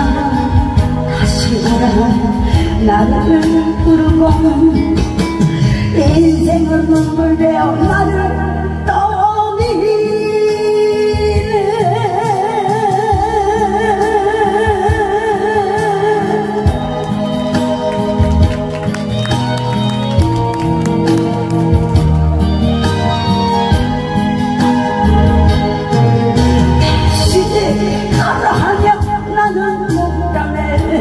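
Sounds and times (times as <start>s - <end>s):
person singing: 0.0s - 18.8s, 22.9s - 31.0s
loud amplified backing music: 0.0s - 31.0s.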